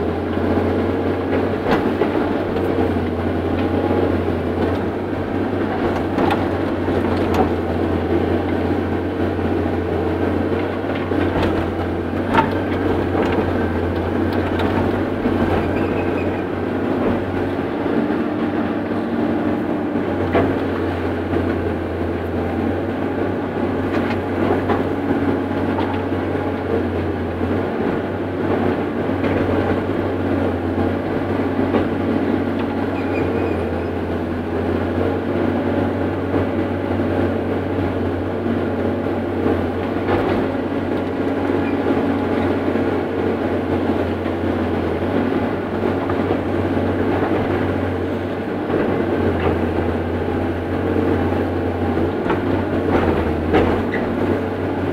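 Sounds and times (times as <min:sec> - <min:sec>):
excavator diesel engine and hydraulics: 0:00.0 - 0:54.9.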